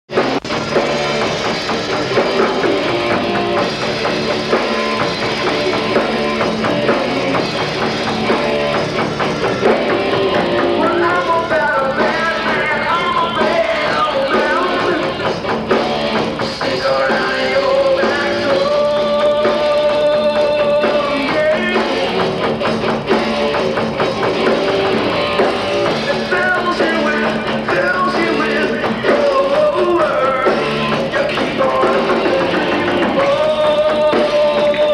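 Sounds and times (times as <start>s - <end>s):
bass guitar: 0.0s - 34.9s
drum kit: 0.1s - 34.9s
electric guitar: 0.1s - 34.9s.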